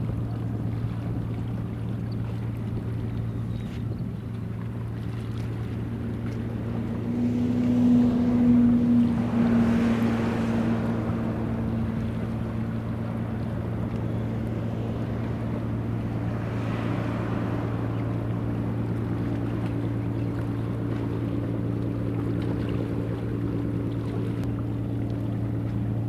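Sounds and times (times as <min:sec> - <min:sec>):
ship engine humming: 0:00.0 - 0:26.0
water noise: 0:00.0 - 0:26.0
wind: 0:00.0 - 0:26.0.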